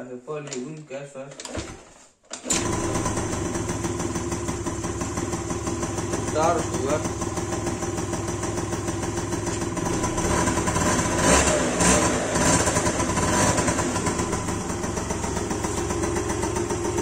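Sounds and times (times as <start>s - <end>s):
scooter engine revving and idling: 2.5s - 17.0s.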